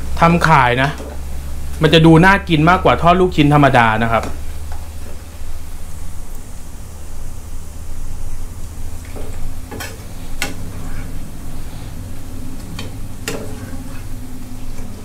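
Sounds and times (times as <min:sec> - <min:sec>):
meatballs deep-frying sizzle: 0:00.0 - 0:15.0.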